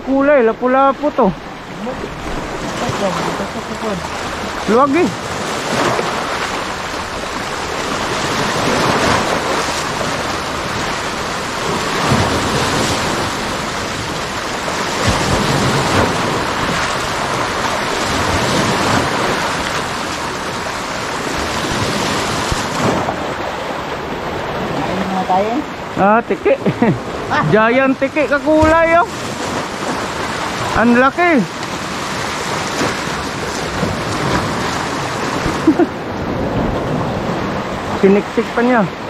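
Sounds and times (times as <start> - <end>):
sea waves washing in: 0.0 - 39.0.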